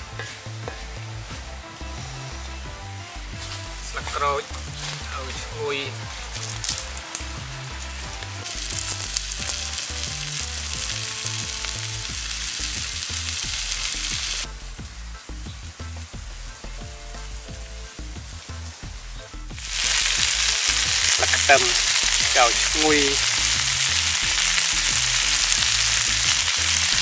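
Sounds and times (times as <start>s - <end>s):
crickets sizzling in a wok: 0.0s - 27.0s.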